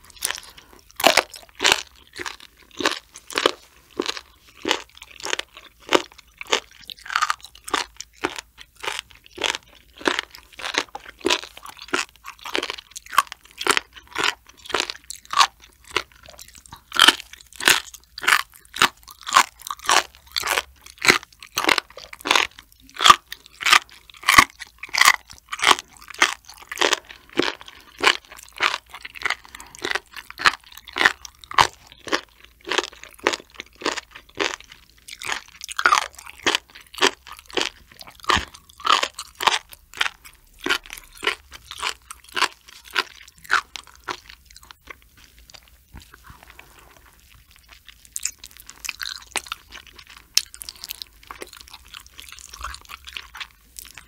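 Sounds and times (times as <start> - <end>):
wet crunchy chewing: 0.0 - 54.0.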